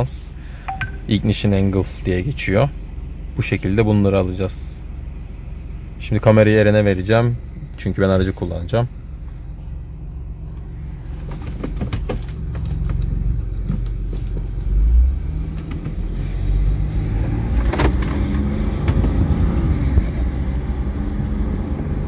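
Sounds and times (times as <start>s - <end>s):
car engine low hum: 0.0s - 22.0s.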